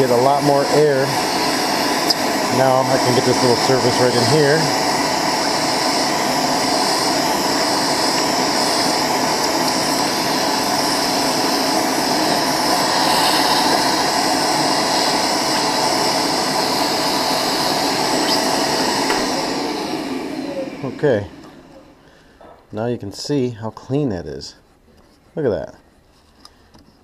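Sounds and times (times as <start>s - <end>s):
vacuum cleaner running: 0.0s - 22.3s.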